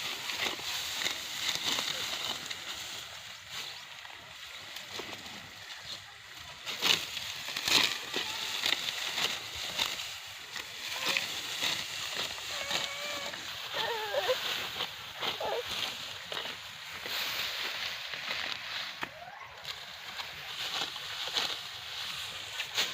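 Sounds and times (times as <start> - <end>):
dry wheat stalks rustling: 0.0 - 22.9.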